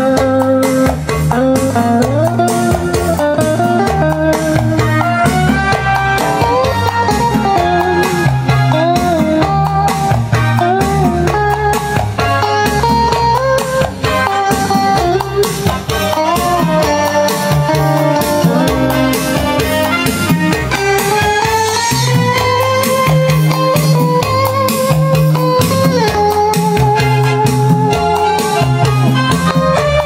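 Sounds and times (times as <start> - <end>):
instrumental music on speakers: 0.0 - 30.0.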